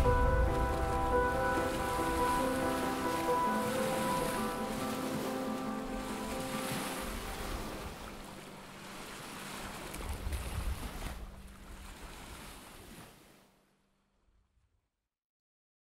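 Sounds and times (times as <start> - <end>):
waves on a shore: 0.0 - 13.6
wind: 0.0 - 14.6.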